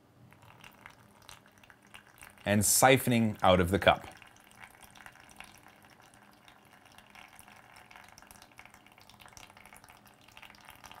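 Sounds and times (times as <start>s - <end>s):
liquid trickling into plastic tub: 0.3s - 11.0s.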